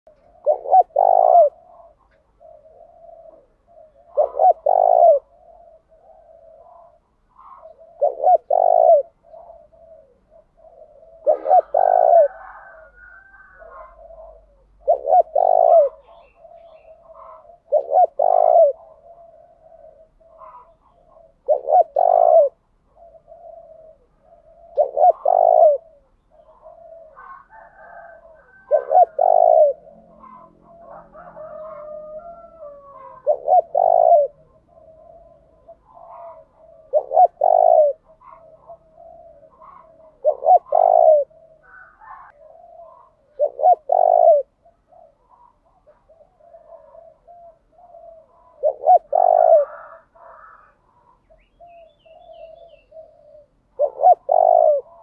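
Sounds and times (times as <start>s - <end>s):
dove cooing: 0.1s - 55.0s.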